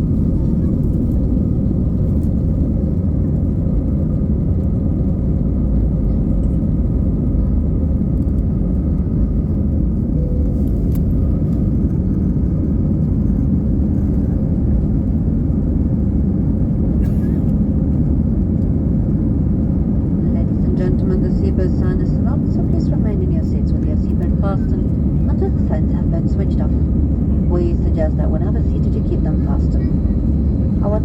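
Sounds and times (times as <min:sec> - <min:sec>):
low rumble of jet engines: 0:00.0 - 0:31.0.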